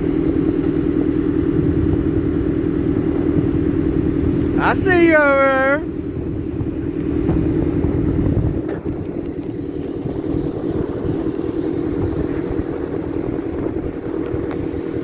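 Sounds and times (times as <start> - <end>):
heavy machinery engine droning: 0.0 - 15.0.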